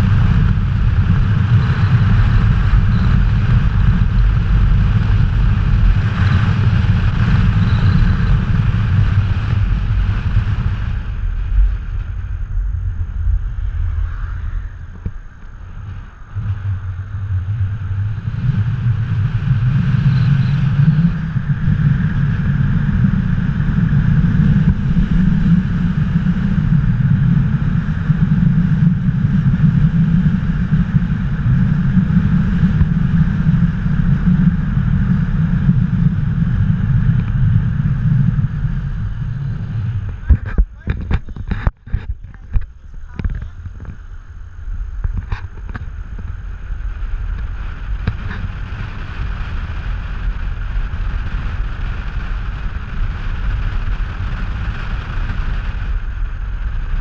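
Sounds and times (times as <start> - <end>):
car road and engine rumble: 0.0 - 57.0
wind buffeting microphone: 0.0 - 57.0.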